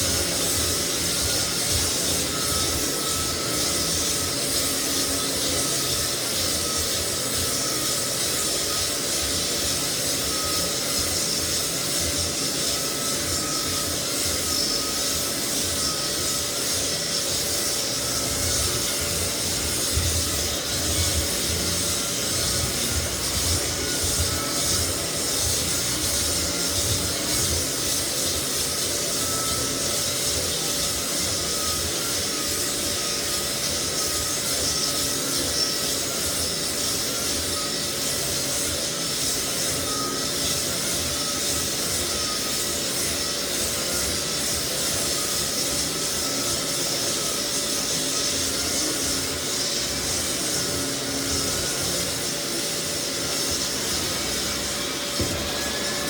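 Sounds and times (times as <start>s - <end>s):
floor sander sanding wood: 0.0s - 56.0s.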